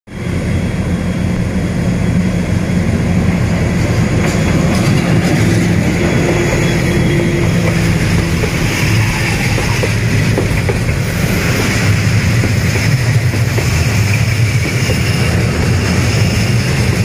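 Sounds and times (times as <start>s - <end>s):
locomotive engine hum: 0.1s - 17.0s.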